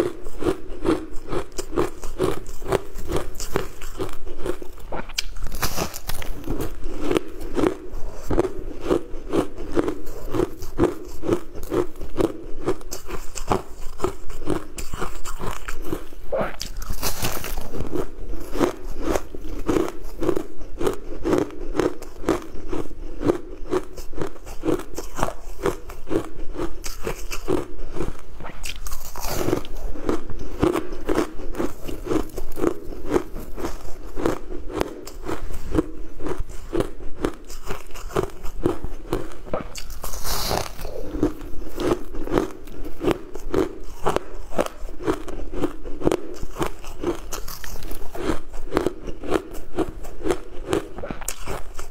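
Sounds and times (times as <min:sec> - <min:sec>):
ice crunching while chewing: 0:00.0 - 0:51.9.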